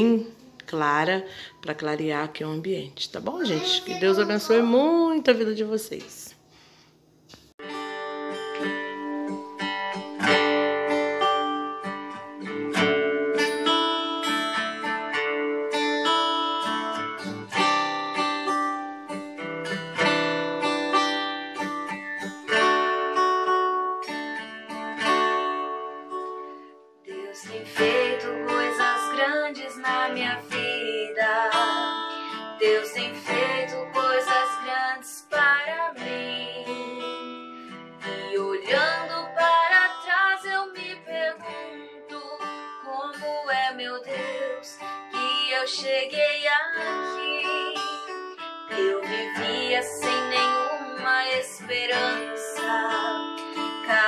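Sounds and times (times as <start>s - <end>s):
acoustic guitar strumming: 3.2s - 5.2s, 7.6s - 54.0s.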